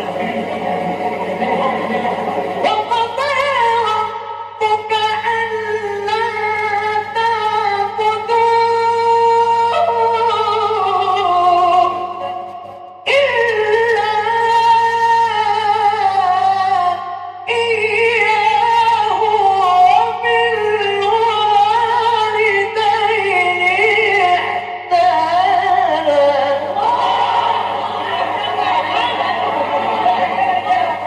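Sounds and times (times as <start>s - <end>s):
man chanting recitation: 0.0s - 27.4s
low electrical hum: 0.0s - 31.0s.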